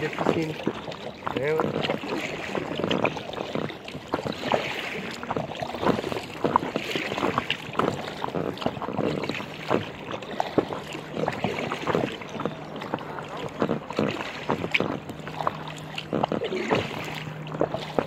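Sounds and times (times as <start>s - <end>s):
water lapping against kayak hull: 0.0s - 18.0s.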